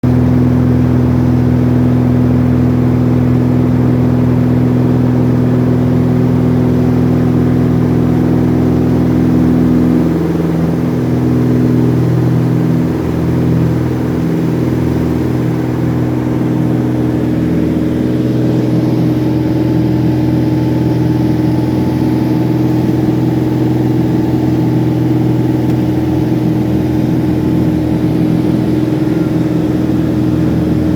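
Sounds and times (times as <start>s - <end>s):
light aircraft engine and propeller: 0.0s - 30.9s.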